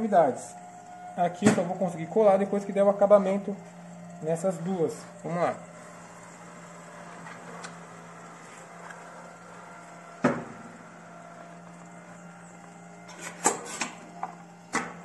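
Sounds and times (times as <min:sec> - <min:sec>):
edge-banding machine humming: 0:00.0 - 0:15.0.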